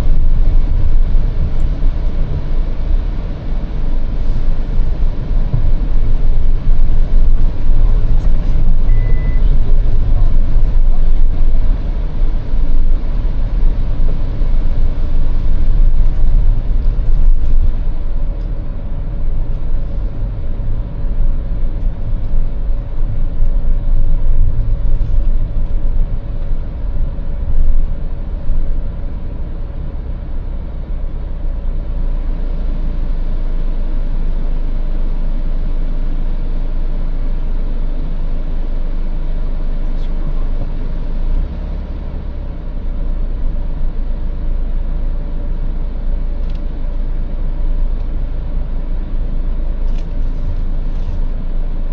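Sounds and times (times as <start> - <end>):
car engine rumbling: 0.0 - 51.9.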